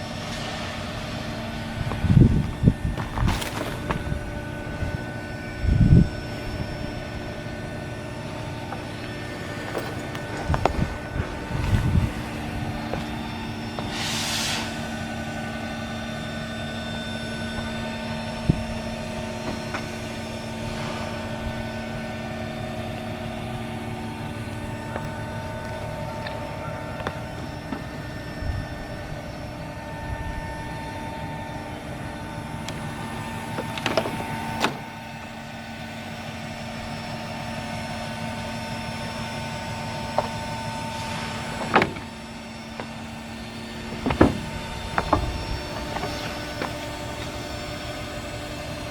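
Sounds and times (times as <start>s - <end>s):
machinery hum: 0.0s - 48.9s.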